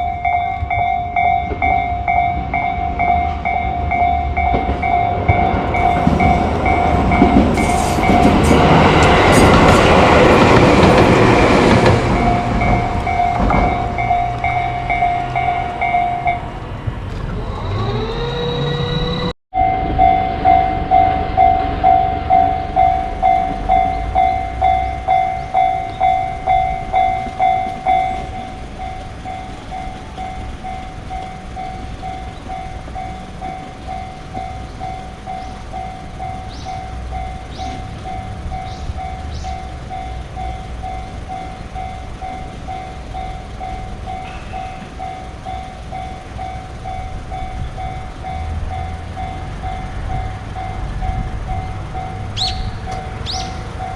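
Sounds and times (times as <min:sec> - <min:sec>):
railroad crossing bell ringing: 0:00.0 - 0:53.9
train rumble: 0:00.0 - 0:53.9.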